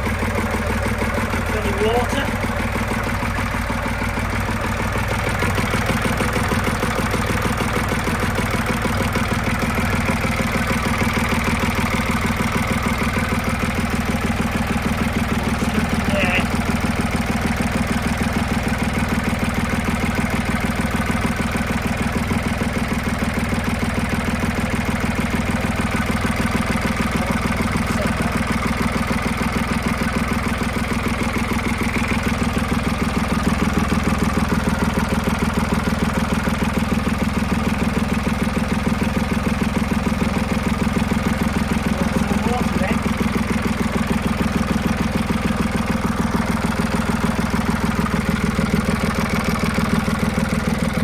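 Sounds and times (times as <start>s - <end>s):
boat engine idling: 0.0s - 51.0s.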